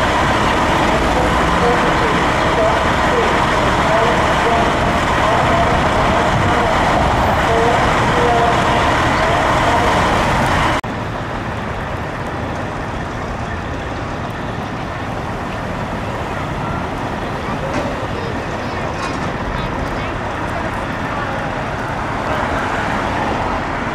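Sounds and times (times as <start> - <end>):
diesel engines idling: 0.0 - 23.9.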